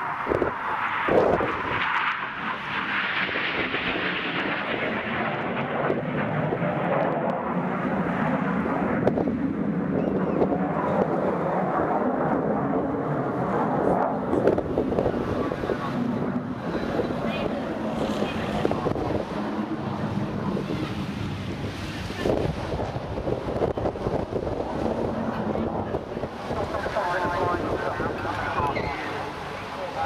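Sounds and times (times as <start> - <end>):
jet flying overhead: 0.0 - 30.0.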